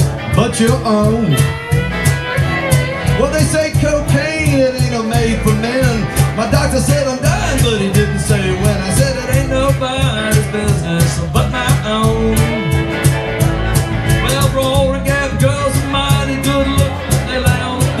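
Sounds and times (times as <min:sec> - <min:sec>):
fiddle melody: 0:00.0 - 0:18.0
guitars: 0:00.0 - 0:18.0
percussive beat: 0:00.0 - 0:18.0
upright bass: 0:00.0 - 0:18.0.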